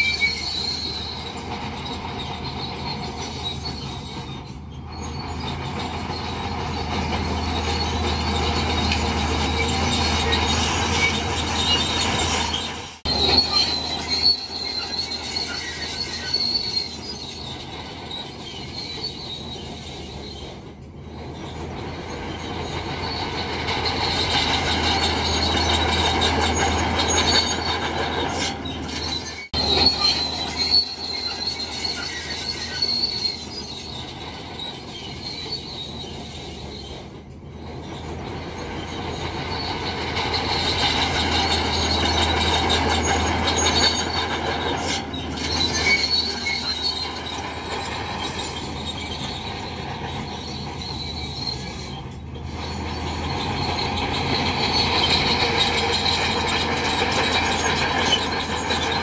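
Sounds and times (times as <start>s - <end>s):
bulldozer diesel engine under load: 0.0s - 59.0s
steel tracks squealing and clanking: 0.0s - 59.0s.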